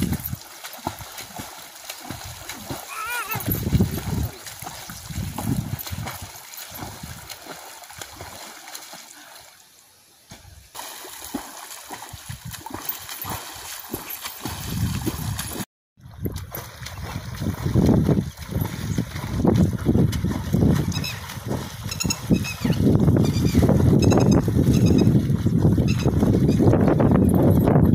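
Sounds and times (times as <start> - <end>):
water splashing from swimming strokes: 0.0 - 9.7, 10.3 - 27.1.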